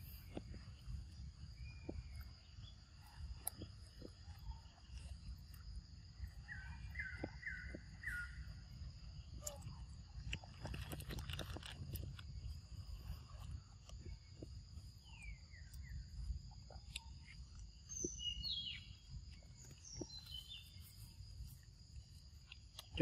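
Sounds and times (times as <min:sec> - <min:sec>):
bird chirps: 0:00.0 - 0:09.9, 0:12.4 - 0:21.6
high insect hum: 0:00.0 - 0:23.0
monkey eating clicks: 0:01.6 - 0:08.2, 0:09.4 - 0:23.0.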